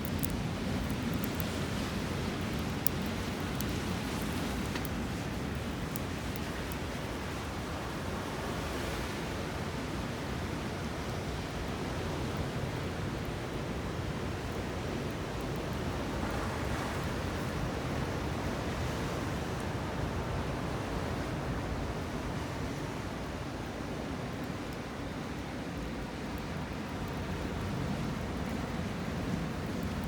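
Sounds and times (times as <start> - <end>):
ocean surf washing ashore: 0.1 - 30.0.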